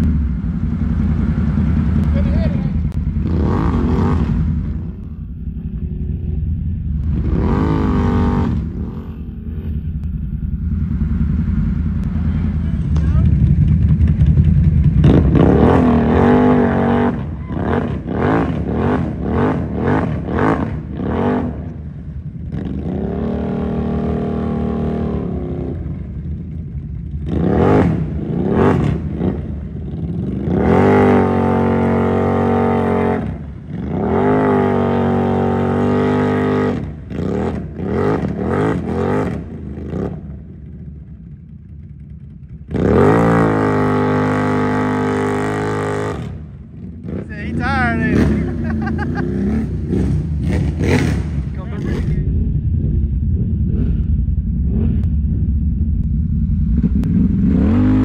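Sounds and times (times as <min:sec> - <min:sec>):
quad bike engine revving: 0:00.0 - 0:40.8, 0:42.5 - 0:55.7, 0:56.4 - 0:58.0.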